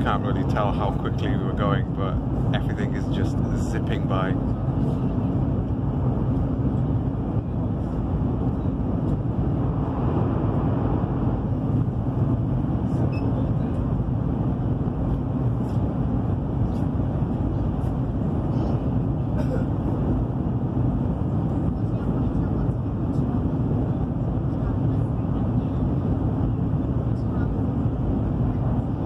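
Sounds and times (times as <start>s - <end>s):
train cabin deep rumble: 0.0s - 29.0s.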